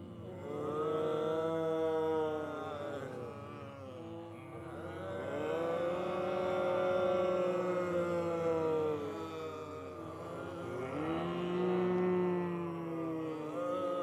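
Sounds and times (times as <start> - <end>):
crowd moaning: 0.0 - 14.0.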